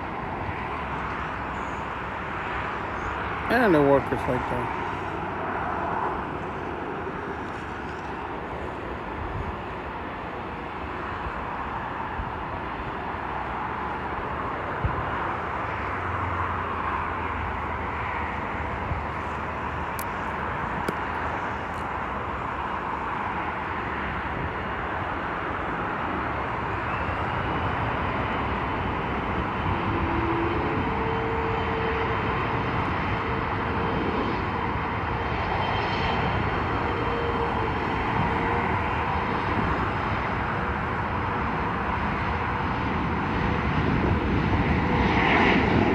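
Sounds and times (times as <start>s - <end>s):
high engine whine: 0.0s - 45.9s
jet airliner engine noise: 0.0s - 45.9s.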